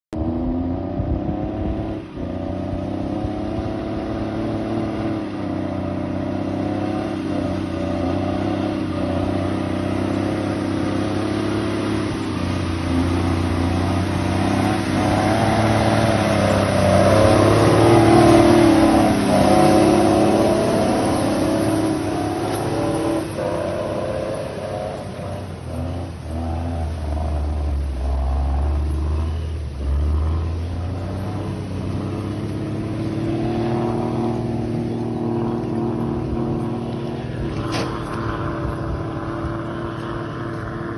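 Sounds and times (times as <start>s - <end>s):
truck engine revving: 0.1s - 40.9s
wheels splashing through mud: 0.2s - 40.9s.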